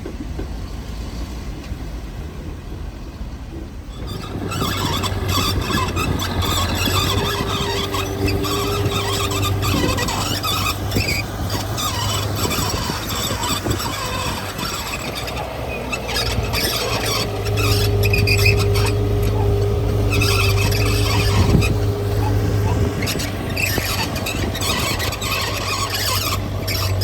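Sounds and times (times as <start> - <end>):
bulldozer diesel engine: 0.0 - 27.0
steel tracks squealing: 2.4 - 27.0.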